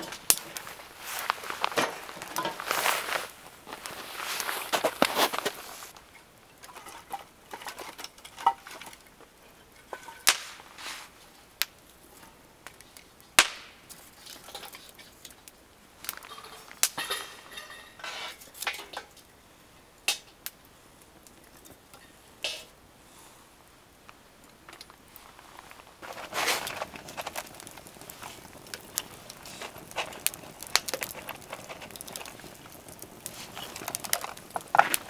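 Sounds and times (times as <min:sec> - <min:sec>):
sharp pops from fire: 0:00.0 - 0:09.3, 0:09.9 - 0:19.3, 0:20.0 - 0:22.8, 0:24.0 - 0:35.0
wood fire crackling: 0:00.0 - 0:35.0.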